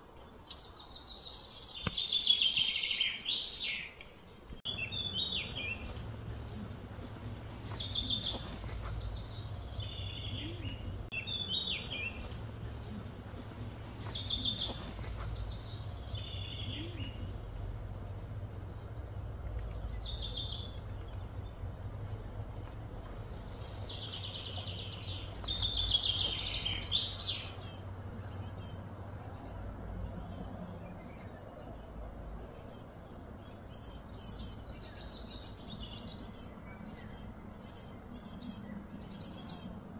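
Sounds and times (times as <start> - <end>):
birds singing and calling: 0.0 - 39.9
low ambient hum: 0.0 - 39.9.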